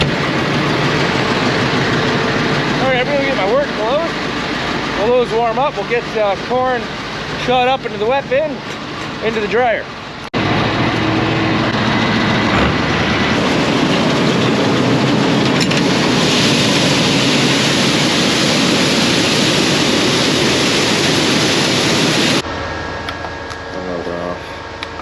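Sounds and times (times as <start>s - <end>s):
farm machinery roaring: 0.0s - 25.0s.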